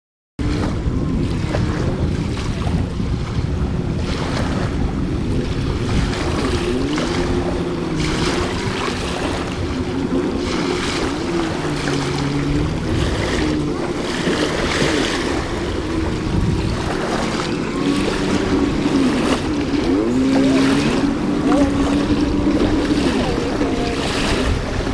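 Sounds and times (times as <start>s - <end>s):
jet ski engine revving: 0.4s - 24.9s.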